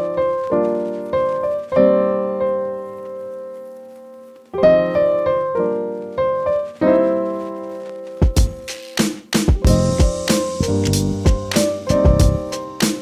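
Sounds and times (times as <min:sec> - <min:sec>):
slow piano chords: 0:00.0 - 0:08.7, 0:09.6 - 0:13.0.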